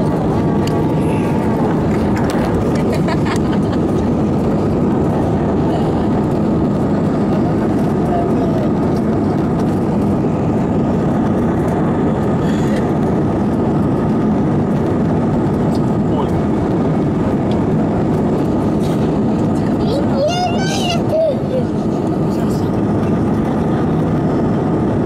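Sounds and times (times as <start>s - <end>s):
airflow over fuselage: 0.0s - 25.0s
airplane cabin engine noise: 0.0s - 25.0s.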